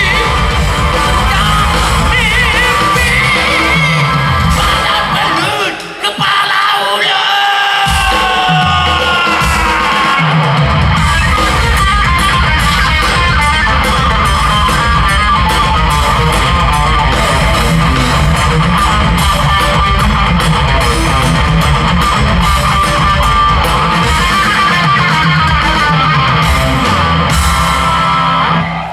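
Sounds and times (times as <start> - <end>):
electric guitar lead: 0.0 - 5.4, 8.5 - 28.9
bass guitar: 0.0 - 5.6, 7.9 - 28.9
steady drum beat: 0.0 - 6.1, 7.8 - 28.9.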